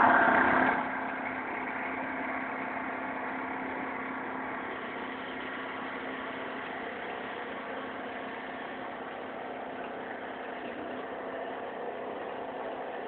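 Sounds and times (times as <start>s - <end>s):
pressure washer engine humming: 0.0s - 13.0s.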